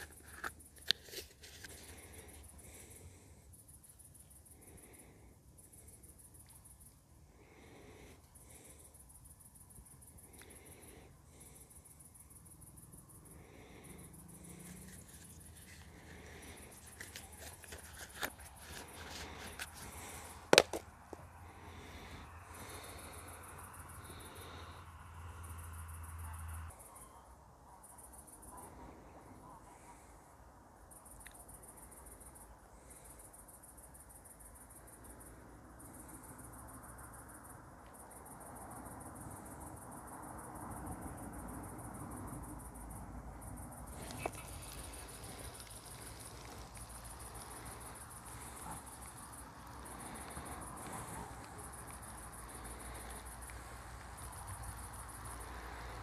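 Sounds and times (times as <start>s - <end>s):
insects chirping: 0.0s - 27.2s, 27.8s - 56.0s.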